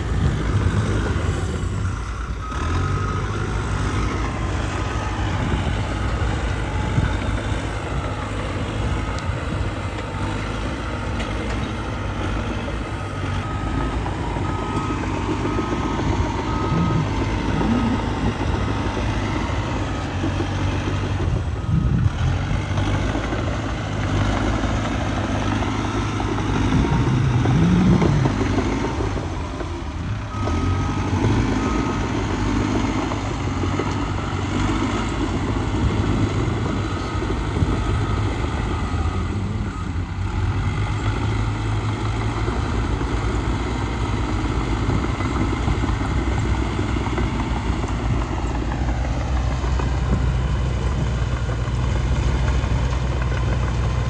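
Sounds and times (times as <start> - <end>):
diesel earthmoving machinery running: 0.0 - 54.0
reversing alarm beeping: 0.1 - 51.1.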